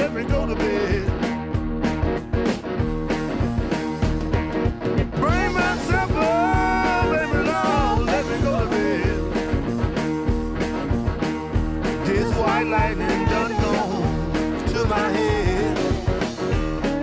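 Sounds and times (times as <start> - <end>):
rock music: 0.0 - 17.0
steady drum beat: 0.0 - 17.0.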